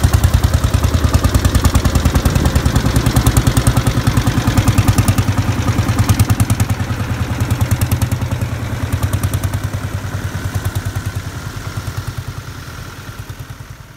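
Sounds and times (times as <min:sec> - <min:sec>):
tractor engine pulsing: 0:00.0 - 0:13.9.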